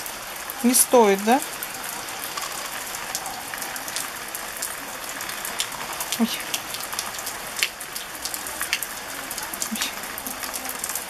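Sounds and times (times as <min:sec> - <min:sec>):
heavy rain on wooden deck: 0:00.0 - 0:11.0
raindrops splatting: 0:00.0 - 0:11.0.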